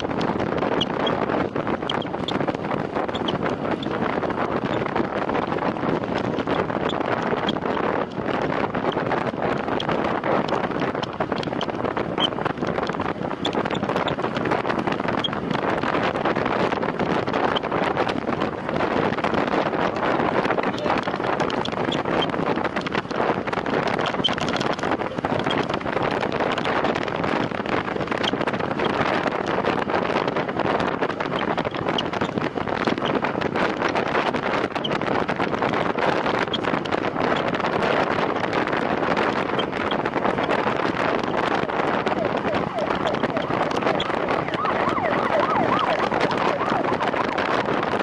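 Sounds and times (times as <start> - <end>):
wind rushing on microphone: 0.0 - 48.0.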